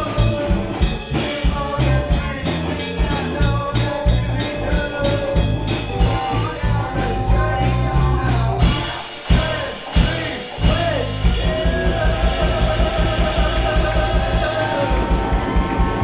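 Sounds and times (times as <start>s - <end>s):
accordion: 0.0s - 16.0s
bass: 0.0s - 16.0s
drums: 0.0s - 16.0s
guitar: 0.0s - 16.0s
person singing: 0.0s - 16.0s.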